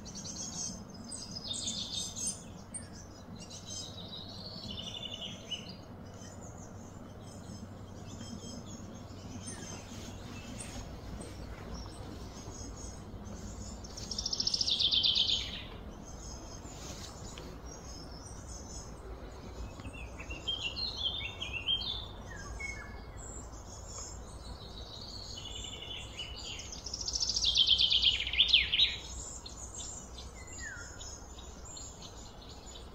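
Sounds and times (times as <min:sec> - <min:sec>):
birds chirping: 0:00.0 - 0:32.9
steady background hum: 0:00.0 - 0:32.9.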